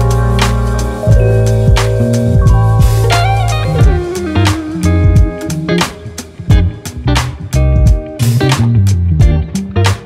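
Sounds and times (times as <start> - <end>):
bass notes: 0.0 - 10.0
guitar: 0.0 - 10.0
steady drum beat: 0.0 - 10.0.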